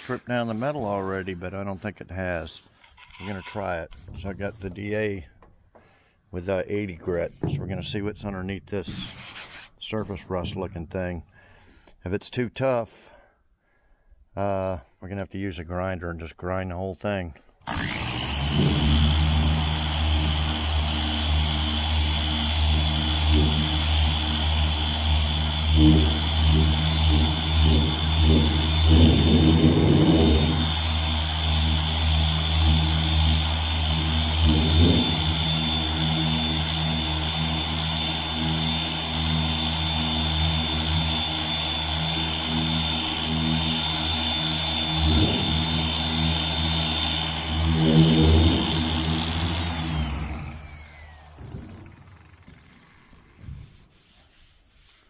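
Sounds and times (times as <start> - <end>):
sander on metal panel: 0.0 - 5.5, 7.0 - 10.9, 17.7 - 55.0.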